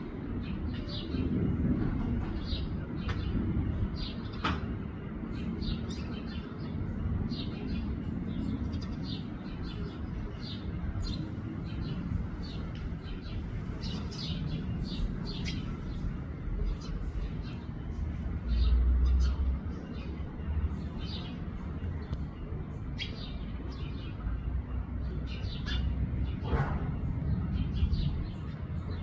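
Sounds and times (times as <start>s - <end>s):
small birds chirping: 0.0s - 29.0s
steady low rumble: 0.0s - 29.0s.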